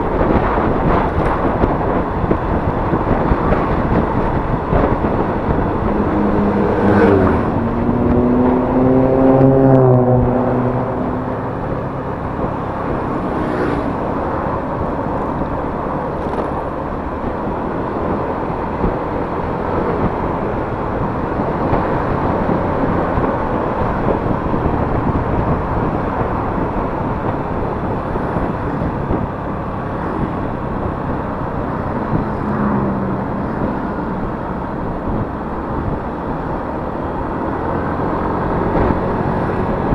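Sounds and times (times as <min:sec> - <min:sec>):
scooter engine running: 0:00.0 - 0:39.9
wind and road rush: 0:00.0 - 0:39.9.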